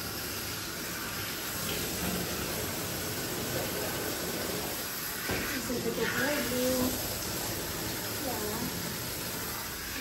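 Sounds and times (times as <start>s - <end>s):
hose spray hissing: 0.0s - 10.0s.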